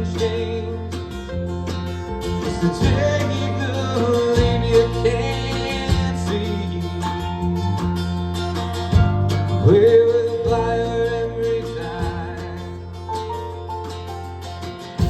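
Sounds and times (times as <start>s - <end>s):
bass line: 0.0s - 15.0s
strummed and plucked guitar: 0.0s - 15.0s.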